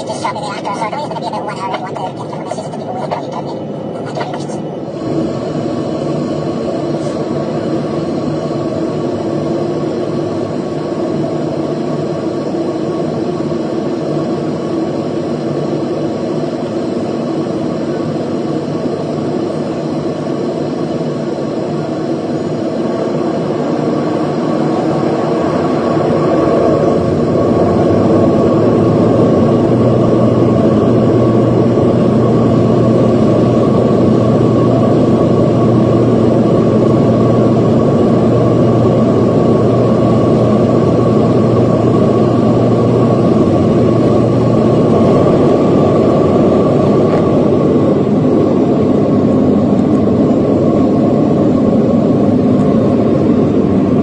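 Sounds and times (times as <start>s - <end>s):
jet engines at high power: 0.0s - 54.0s.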